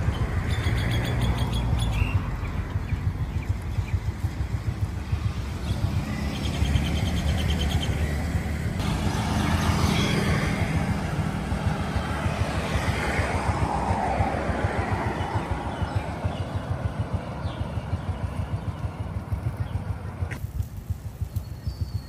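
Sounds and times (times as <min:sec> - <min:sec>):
low engine hum: 0:00.0 - 0:22.0
motorcycle engines passing: 0:00.0 - 0:22.0.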